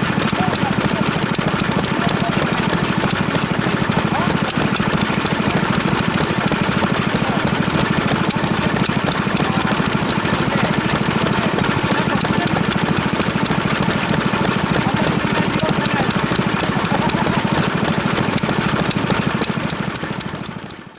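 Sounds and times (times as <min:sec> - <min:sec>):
old stationary engine running: 0:00.0 - 0:20.9.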